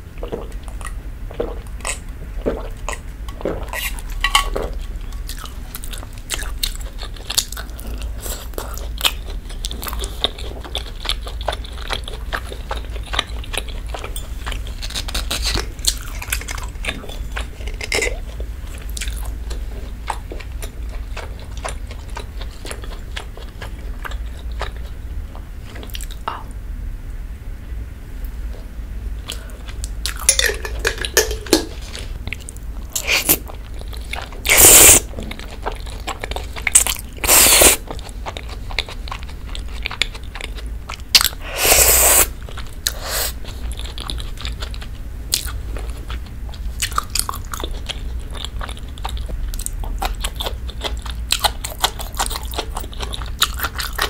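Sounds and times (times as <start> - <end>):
chewing with wet mouth clicks: 0.2 - 26.4, 29.2 - 54.0.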